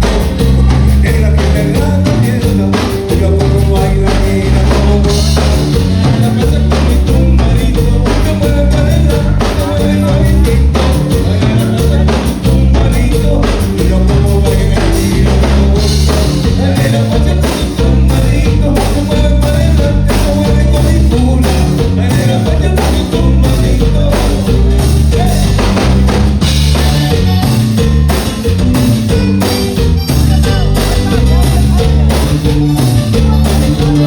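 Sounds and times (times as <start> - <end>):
bass: 0.0 - 34.0
drum kit beat: 0.0 - 34.0
live band playing loudly: 0.0 - 34.0.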